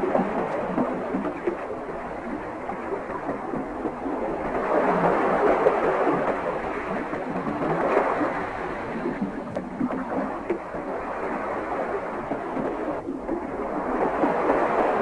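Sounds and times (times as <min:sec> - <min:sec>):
underwater water rushing: 0:00.0 - 0:15.0.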